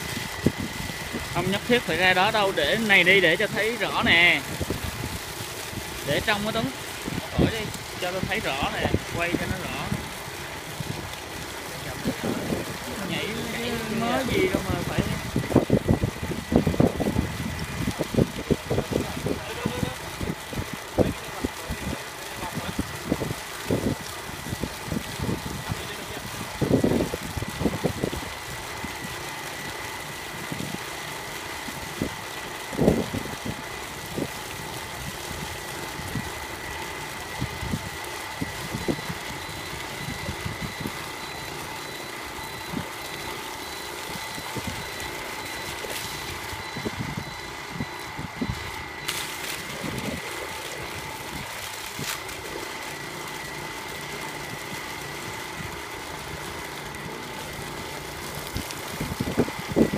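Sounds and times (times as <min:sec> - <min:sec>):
engine whining steadily: 0:00.0 - 0:59.9.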